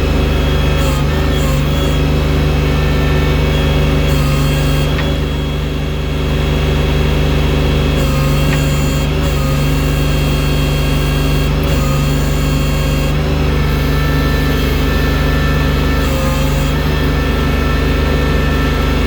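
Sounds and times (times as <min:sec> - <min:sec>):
snow-clearing machine engine running: 0:00.0 - 0:19.0.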